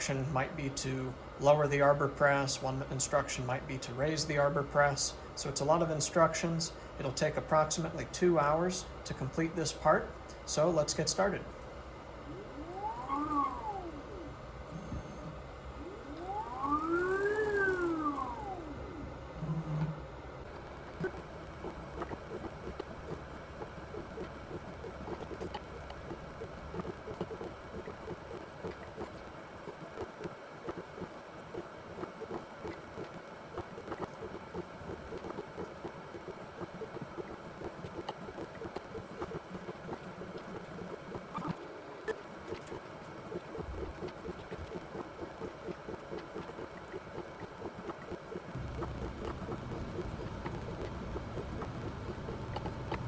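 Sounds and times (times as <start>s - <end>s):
machine humming with fluttering patter: 0.0s - 53.0s.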